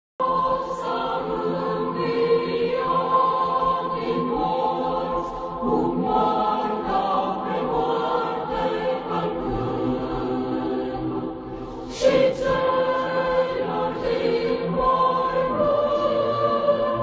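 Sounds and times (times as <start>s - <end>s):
choir singing a hymn: 0.2s - 17.0s.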